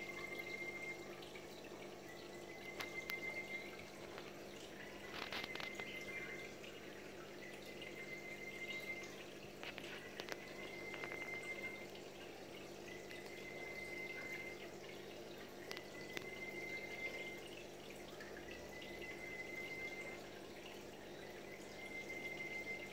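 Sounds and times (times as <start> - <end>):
faint high-pitched tone: 0.0 - 1.3, 2.1 - 9.4, 10.2 - 14.8, 15.7 - 20.4, 21.0 - 22.9
water trickling and dripping: 0.0 - 22.9.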